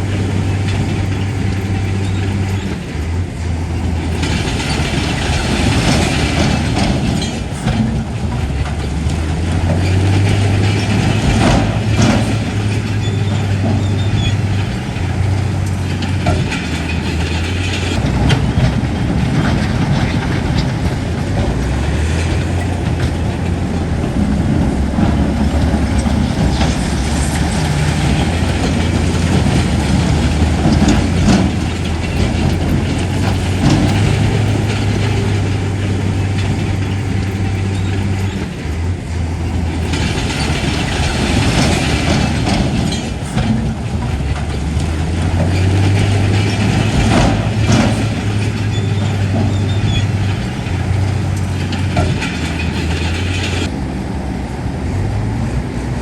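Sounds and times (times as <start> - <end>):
metallic clanks from tracks: 0.0 - 53.9
bulldozer diesel engine under load: 0.0 - 56.0.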